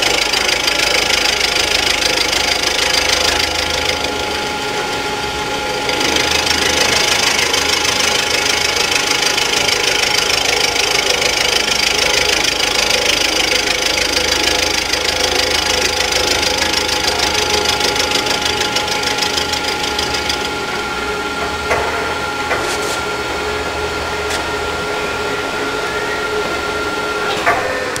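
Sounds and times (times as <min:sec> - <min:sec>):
end mill cutting metal: 0:00.0 - 0:28.0
machine spindle whining: 0:00.0 - 0:28.0.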